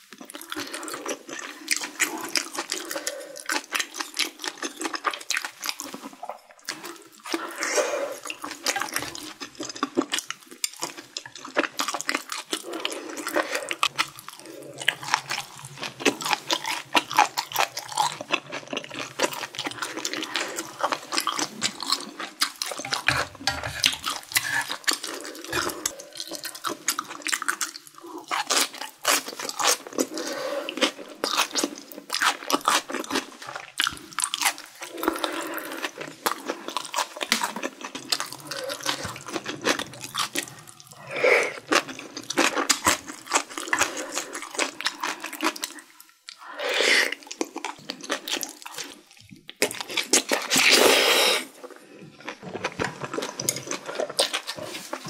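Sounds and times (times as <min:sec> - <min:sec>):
chewing with crackles: 0:00.0 - 0:55.0.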